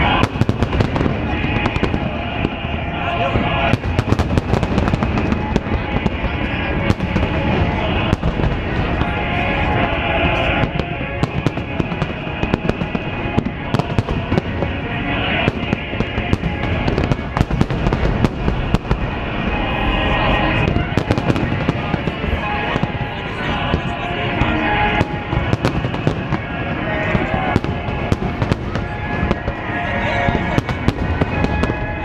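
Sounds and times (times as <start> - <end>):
fireworks banging: 0.0 - 32.0.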